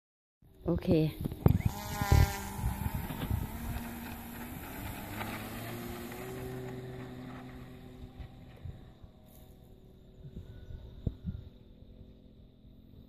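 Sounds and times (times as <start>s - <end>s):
model plane propeller drone: 0.5s - 13.0s
wind buffeting microphone: 0.9s - 12.3s.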